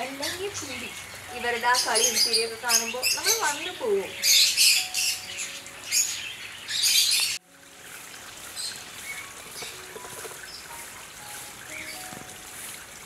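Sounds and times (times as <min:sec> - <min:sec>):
birds chirping: 0:00.0 - 0:07.4, 0:08.5 - 0:12.8.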